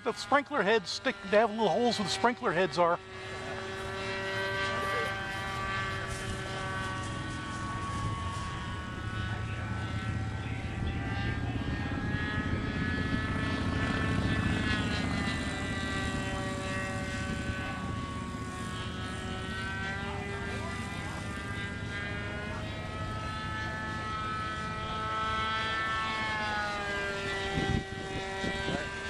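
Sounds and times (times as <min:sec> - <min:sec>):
model airplane engine buzzing: 0:00.0 - 0:29.0.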